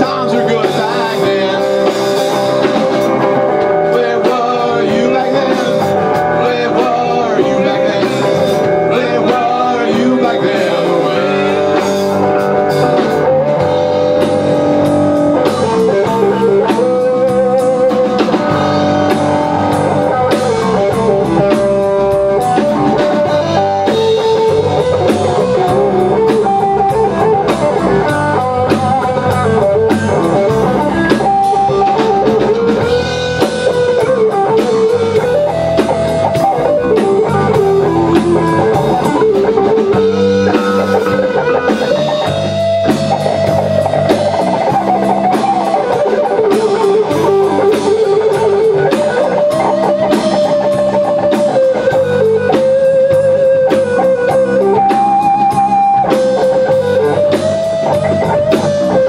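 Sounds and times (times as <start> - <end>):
drum kit: 0.0 - 59.0
electric lead guitar with bent notes: 0.0 - 59.0
rhythm electric guitar: 0.0 - 59.0.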